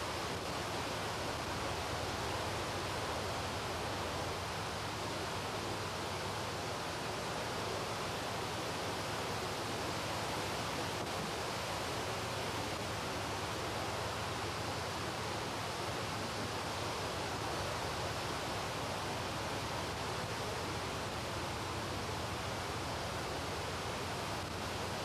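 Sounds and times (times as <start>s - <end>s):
river flowing: 0.0s - 25.0s
water rushing over weir: 0.0s - 25.0s.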